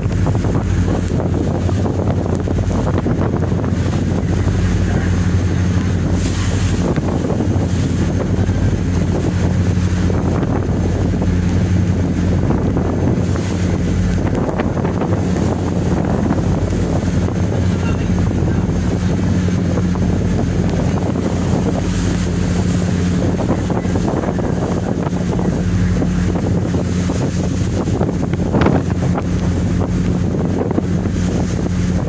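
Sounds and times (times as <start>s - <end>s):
sea washing against hull: 0.0s - 32.0s
wind buffeting microphone: 0.0s - 32.0s.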